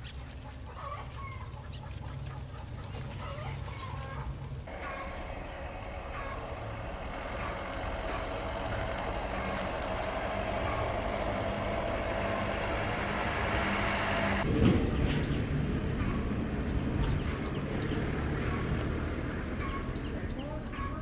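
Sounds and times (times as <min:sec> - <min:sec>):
engine hum: 0:00.2 - 0:21.0.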